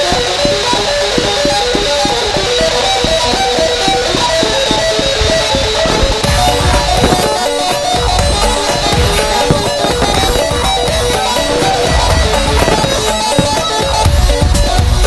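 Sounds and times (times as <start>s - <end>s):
fast plucked-note music: 0.0s - 15.0s.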